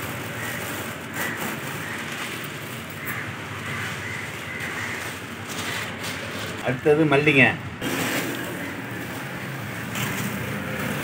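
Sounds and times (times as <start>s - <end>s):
dried chillies rustling: 0.0s - 11.0s
plastic bag crinkling: 0.0s - 11.0s.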